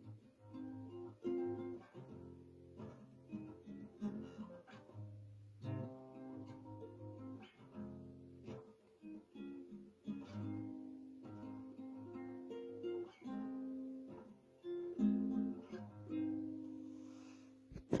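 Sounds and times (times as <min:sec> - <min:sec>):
classical guitar playing: 0:00.0 - 0:18.0.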